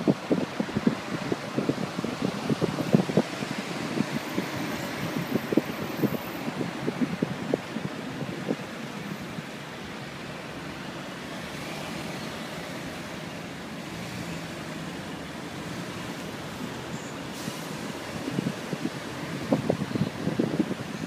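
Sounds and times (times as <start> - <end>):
road noise inside moving car: 0.0 - 21.0.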